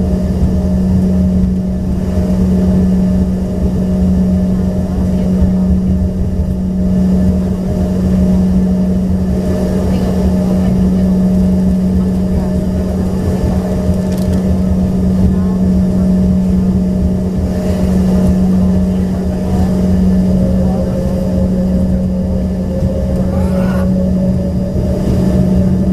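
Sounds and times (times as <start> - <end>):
jet engines humming in cabin: 0.0 - 25.9.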